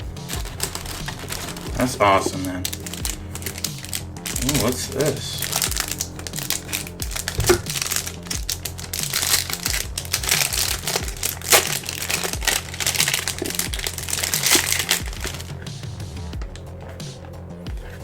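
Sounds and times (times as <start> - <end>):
background music: 0.0 - 18.0
packaging wrap crackling: 0.0 - 18.0.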